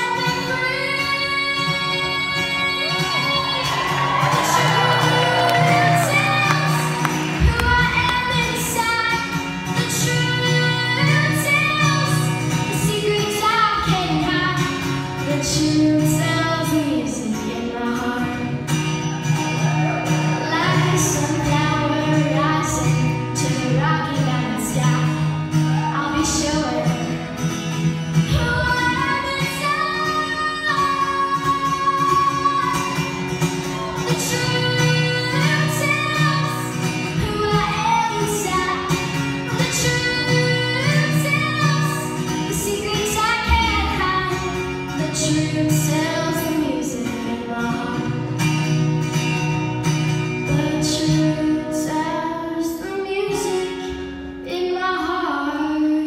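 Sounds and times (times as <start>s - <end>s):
woman singing: 0.0s - 18.9s, 20.1s - 27.5s, 28.1s - 49.1s, 50.1s - 56.0s
strummed acoustic guitar: 0.0s - 56.0s.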